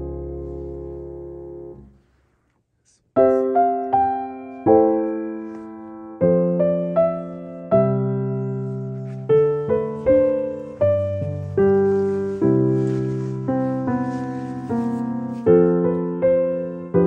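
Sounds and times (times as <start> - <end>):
piano music: 0.0 - 2.0, 3.2 - 17.0.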